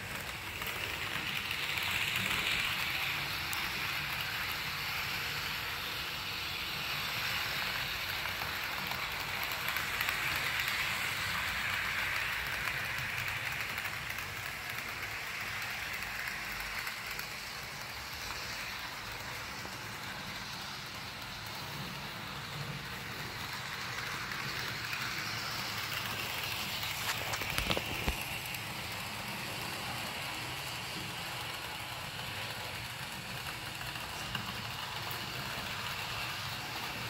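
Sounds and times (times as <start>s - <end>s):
model train wheels rattling on rails: 0.0s - 37.0s
small motor whirring: 0.0s - 37.0s.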